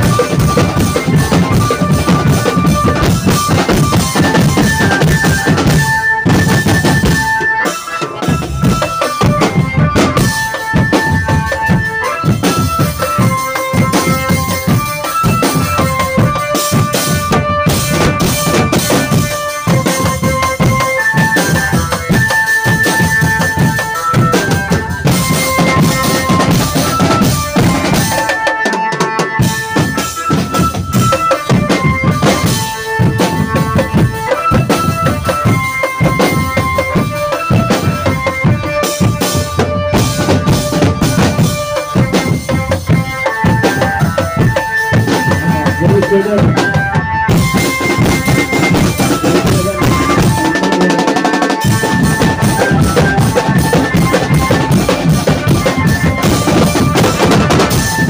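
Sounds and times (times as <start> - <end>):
bass and snare drums beating: 0.0 - 58.0
melody of held notes: 0.0 - 58.0.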